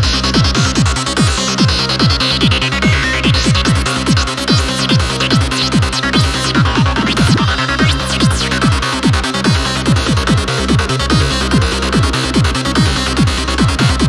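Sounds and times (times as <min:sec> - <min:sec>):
kick drum and bass: 0:00.0 - 0:14.0.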